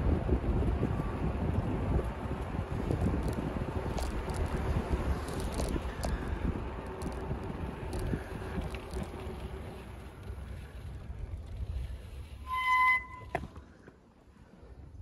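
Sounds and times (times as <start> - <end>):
wind rushing over microphone: 0.0 - 12.5.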